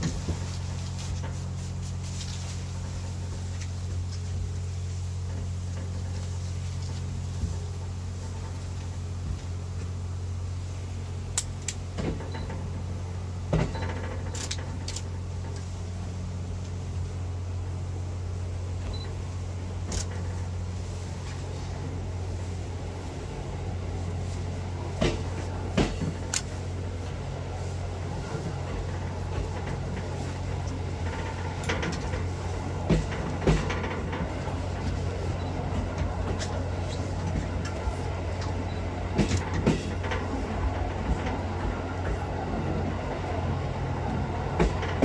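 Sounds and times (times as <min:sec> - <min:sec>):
train knocks and clunks: 0:00.0 - 0:10.0, 0:11.0 - 0:45.0
train engine hum: 0:00.0 - 0:45.0.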